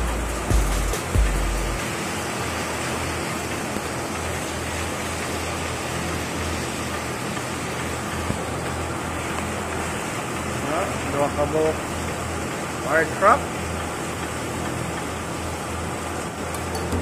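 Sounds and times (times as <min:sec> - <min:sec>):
hose water rushing and splashing: 0:00.1 - 0:17.0.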